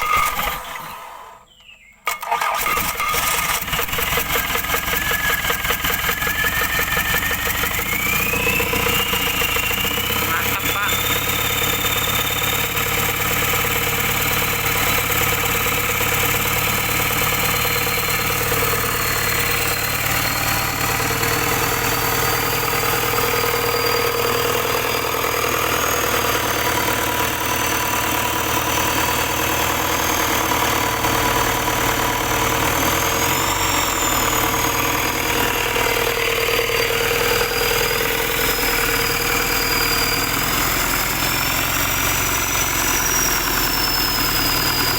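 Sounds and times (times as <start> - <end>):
diesel truck engine idling: 5.5 - 44.9.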